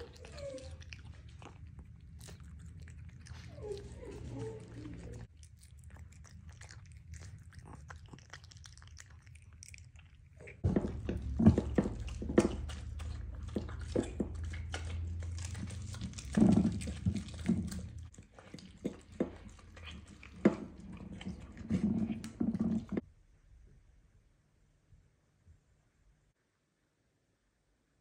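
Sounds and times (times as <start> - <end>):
cat chewing meat: 0.0 - 23.0
dogs chewing and smacking: 0.0 - 23.0.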